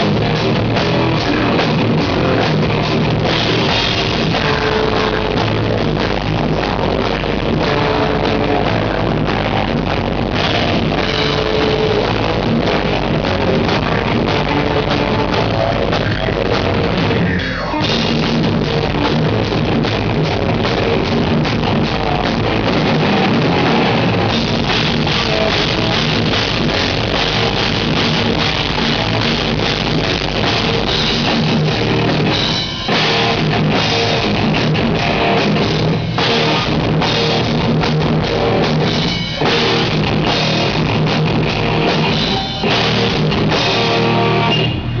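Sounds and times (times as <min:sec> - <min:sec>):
distorted electric guitars: 0:00.0 - 0:45.0
pounding drum kit: 0:00.0 - 0:45.0.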